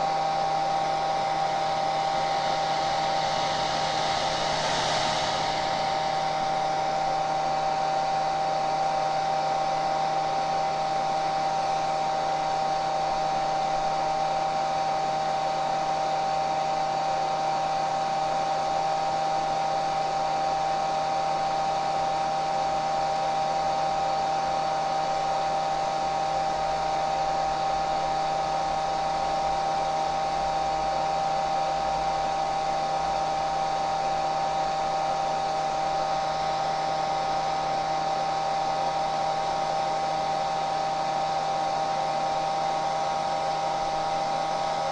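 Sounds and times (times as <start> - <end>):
hair dryer running: 0.0 - 44.9.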